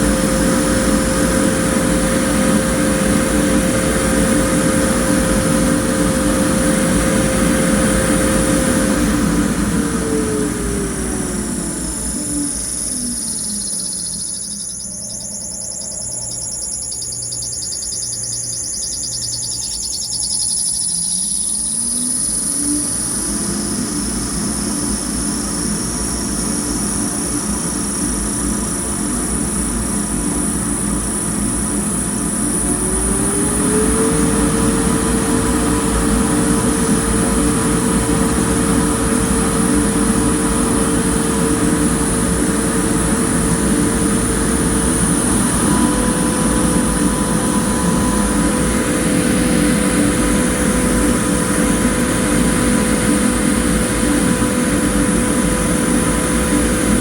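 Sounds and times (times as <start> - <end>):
fan motor hum: 0.0 - 57.0
high-pitched whine: 0.0 - 57.0.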